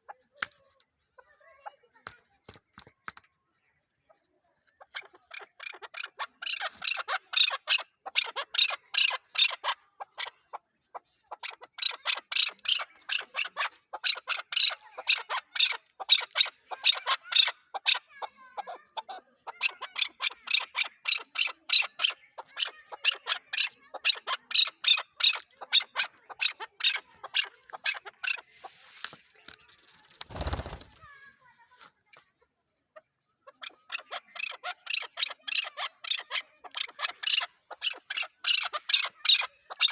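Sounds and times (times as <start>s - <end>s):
partridge chuck calls: 0.0s - 31.2s, 33.0s - 39.9s.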